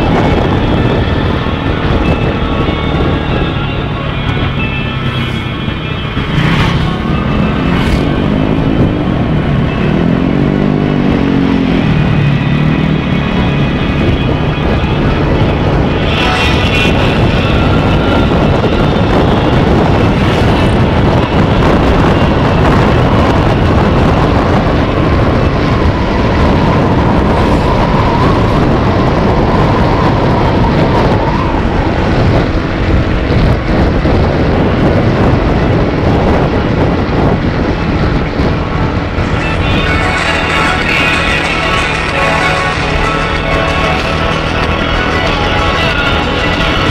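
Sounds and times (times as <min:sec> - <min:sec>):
vehicle road and engine noise: 0:00.0 - 0:46.9
wind rushing over microphone: 0:00.0 - 0:46.9.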